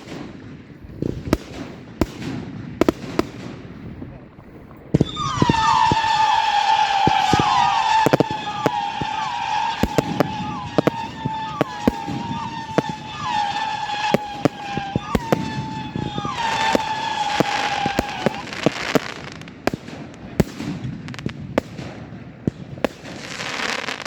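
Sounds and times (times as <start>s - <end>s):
firework cracks and bangs: 0.0s - 24.0s
whistling fireworks: 0.0s - 24.0s.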